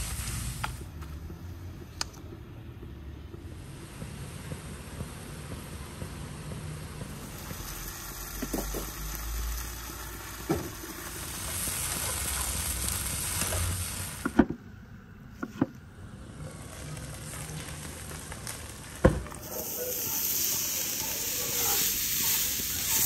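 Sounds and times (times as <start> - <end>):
tomatoes sizzling in a frying pan: 0.0 - 0.9, 3.5 - 14.4, 16.3 - 23.0.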